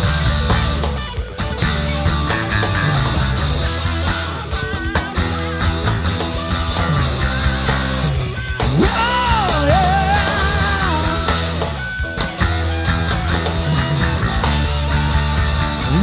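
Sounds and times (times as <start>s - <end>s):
bass guitar: 0.0s - 16.0s
drums: 0.0s - 16.0s
lead electric guitar: 0.0s - 16.0s.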